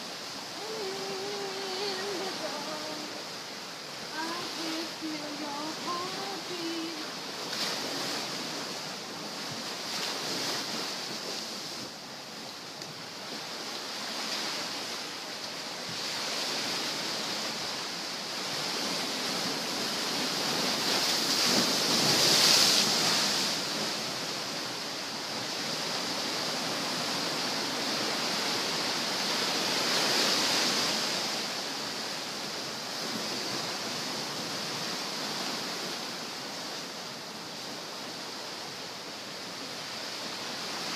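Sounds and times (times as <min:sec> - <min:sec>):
surf breaking on shore: 0:00.0 - 0:40.9.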